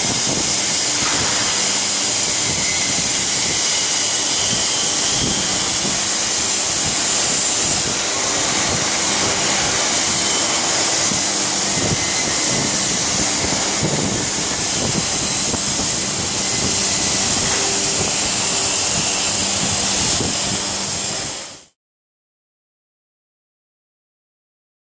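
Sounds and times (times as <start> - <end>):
low machinery hum: 0.0 - 21.6
high machinery hiss: 0.0 - 21.8.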